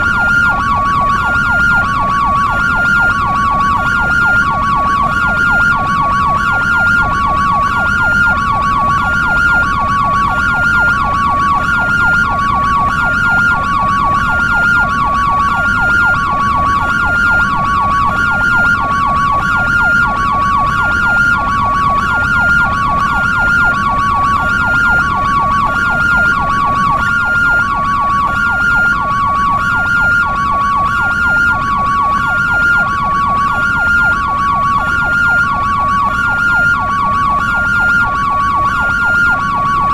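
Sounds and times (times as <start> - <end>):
fast yelp siren warble: 0.0 - 39.9
two-tone ambulance siren: 0.0 - 39.9.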